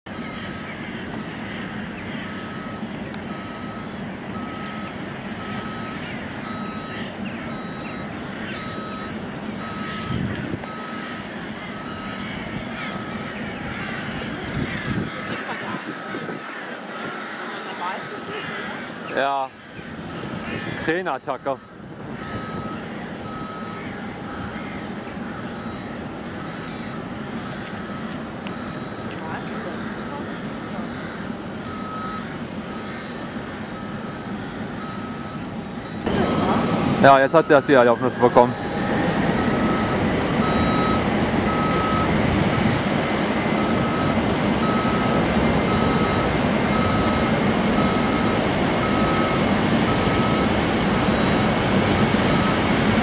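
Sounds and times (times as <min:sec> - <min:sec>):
jet engines rumbling: 0:00.1 - 0:53.0
reversing alarm beeping: 0:00.1 - 0:53.0.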